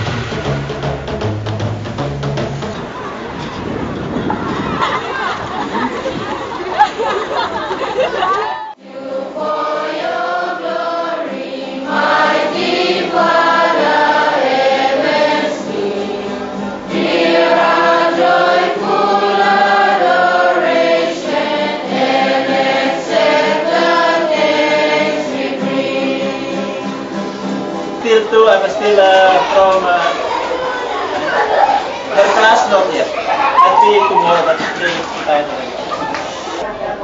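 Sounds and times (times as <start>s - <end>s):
children's choir singing a hymn: 4.8s - 36.8s.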